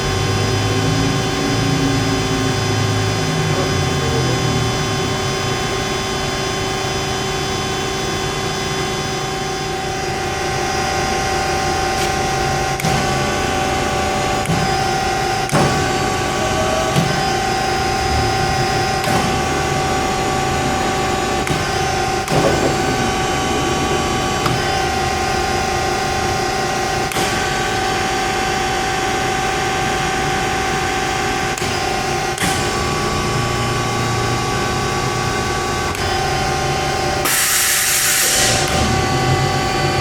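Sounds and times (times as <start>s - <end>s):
band saw hum and whine: 0.0s - 40.0s.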